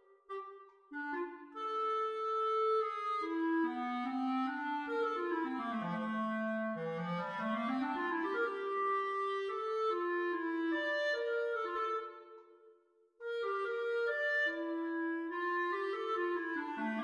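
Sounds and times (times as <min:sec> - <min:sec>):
solo clarinet melody: 0:00.0 - 0:12.5, 0:13.2 - 0:17.0.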